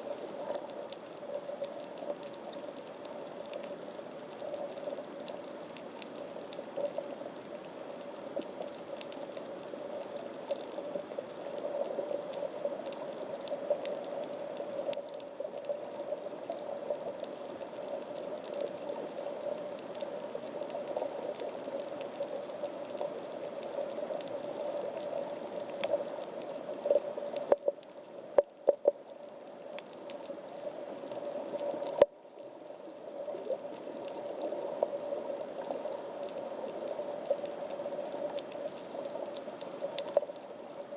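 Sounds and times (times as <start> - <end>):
faint underwater clicks and crackles: 0.0 - 40.9
steady underwater hiss: 0.0 - 40.9.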